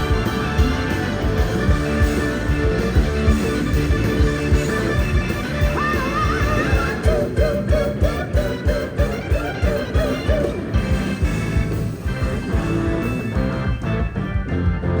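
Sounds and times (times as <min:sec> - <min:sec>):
bending electric guitar lead: 0:00.0 - 0:15.0
rock band playing: 0:00.0 - 0:15.0.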